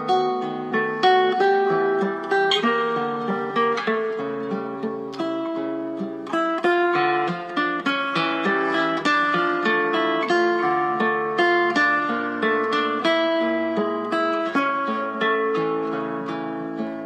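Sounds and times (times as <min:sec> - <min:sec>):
acoustic guitar picking melody: 0:00.0 - 0:17.0.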